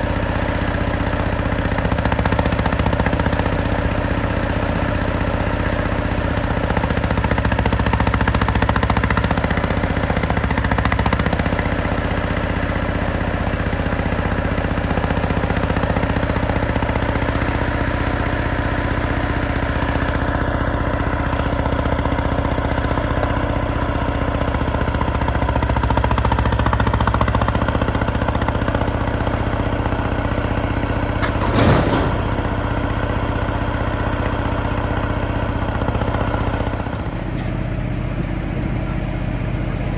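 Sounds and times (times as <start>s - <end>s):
diesel truck engine rattling: 0.0s - 39.9s.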